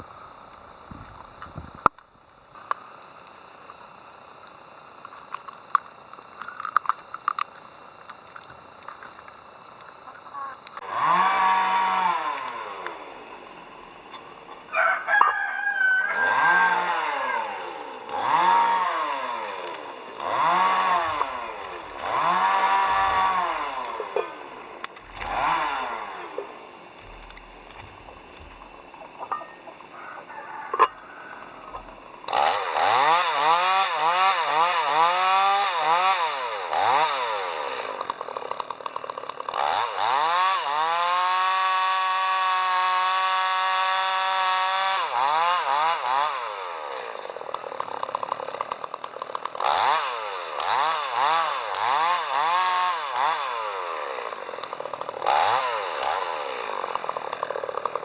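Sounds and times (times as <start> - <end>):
chainsaw revving: 0.0 - 1.9, 10.6 - 58.0.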